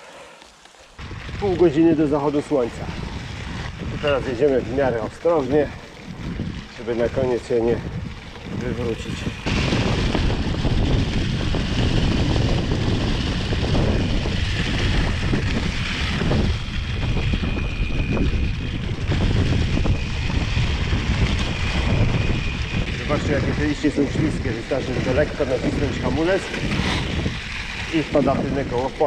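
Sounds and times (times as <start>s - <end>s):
bike rattling over bumps: 0.0s - 29.0s
bike tyres rumbling over leaves: 0.0s - 29.0s
wind buffeting microphone: 1.0s - 29.0s.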